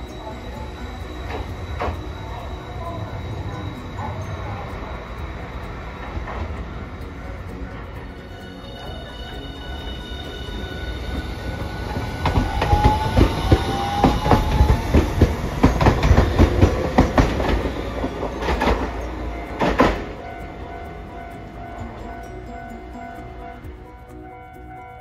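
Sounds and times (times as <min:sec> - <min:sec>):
tram wheels clacking over rail joints: 0:00.0 - 0:23.4
tram motor whine: 0:00.0 - 0:25.0.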